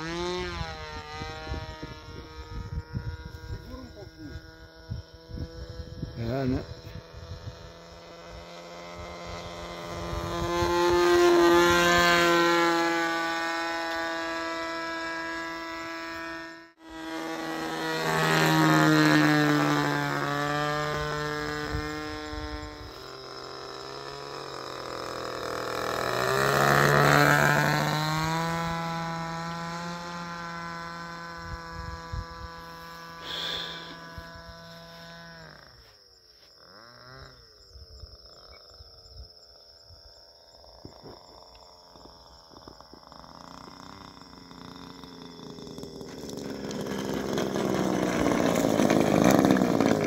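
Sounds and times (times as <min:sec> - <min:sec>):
model aeroplane engine drone: 0:00.0 - 0:50.0.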